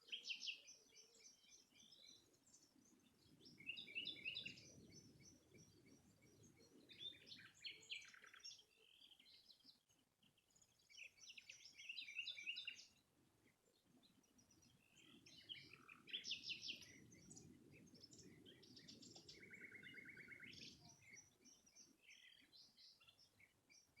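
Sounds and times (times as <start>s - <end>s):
small birds chirping and twittering: 0.0s - 24.0s.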